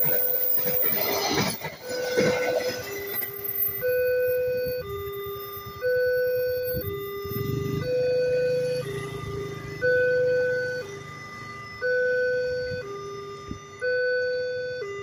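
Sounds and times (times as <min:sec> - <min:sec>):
train passing: 0:00.0 - 0:13.2
two-tone level crossing alarm: 0:00.0 - 0:15.0.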